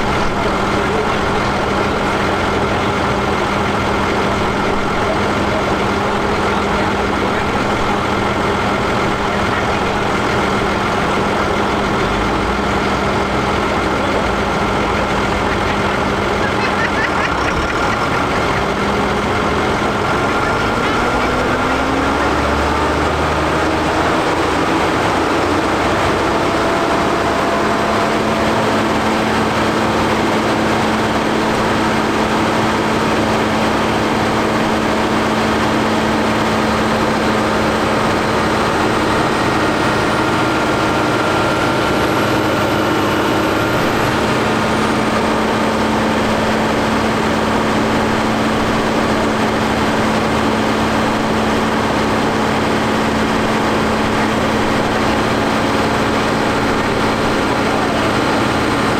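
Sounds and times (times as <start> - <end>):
tractor engine running under load: 0.0 - 58.9.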